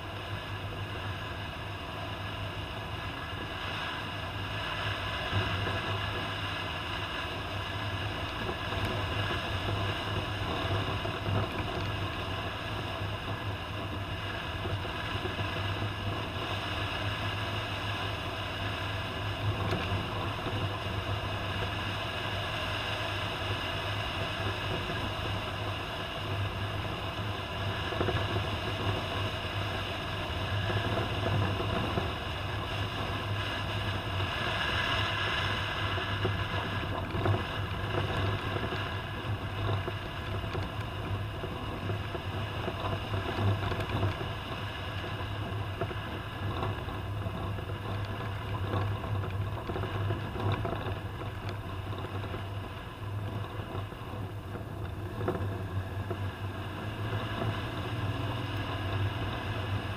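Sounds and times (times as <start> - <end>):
car engine humming: 0.0 - 59.9
road and wind noise: 0.0 - 59.9.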